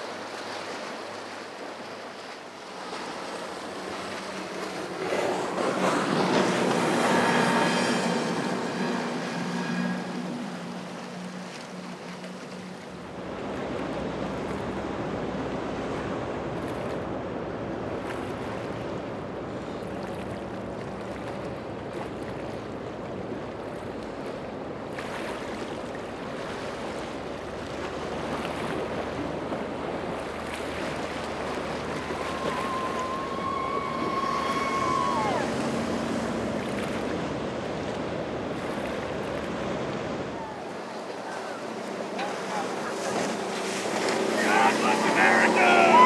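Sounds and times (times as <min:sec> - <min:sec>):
hull spray and waves: 0:00.0 - 0:46.0
outboard engine noise: 0:00.0 - 0:46.0.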